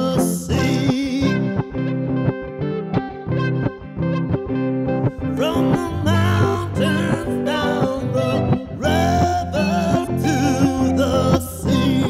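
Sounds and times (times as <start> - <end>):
guitar-led music: 0.0 - 12.0.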